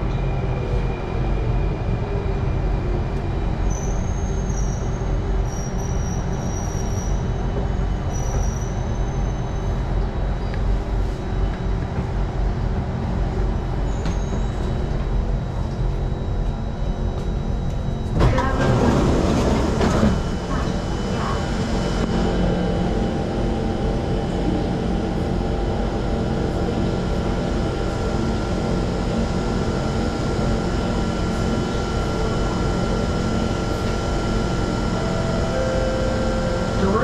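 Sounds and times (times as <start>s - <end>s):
train low rumble: 0.0s - 37.0s.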